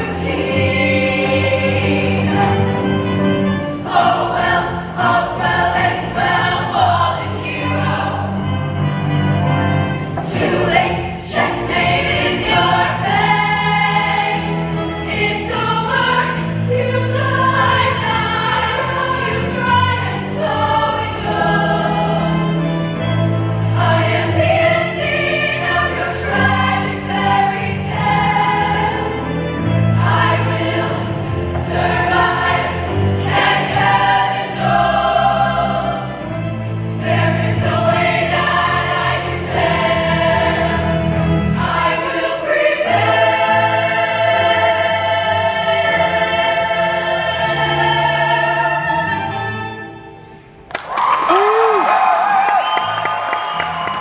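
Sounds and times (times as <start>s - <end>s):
choir singing in harmony: 0.0s - 50.6s, 52.6s - 54.0s
instrumental accompaniment: 0.0s - 50.9s.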